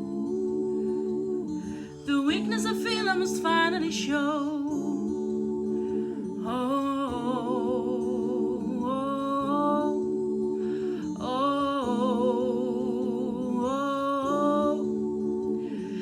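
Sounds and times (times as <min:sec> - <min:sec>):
layered voices humming harmony: 0:00.0 - 0:16.0.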